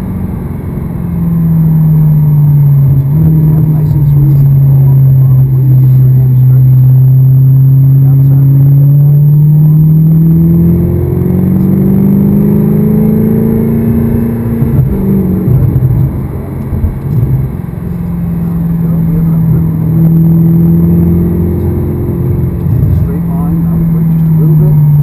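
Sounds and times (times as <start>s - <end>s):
sports car engine accelerating: 0.0s - 25.0s.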